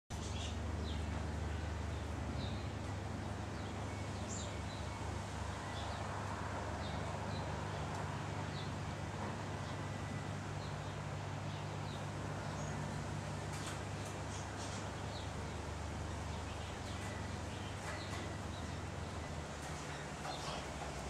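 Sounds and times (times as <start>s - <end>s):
outdoor background noise: 0.1s - 21.0s.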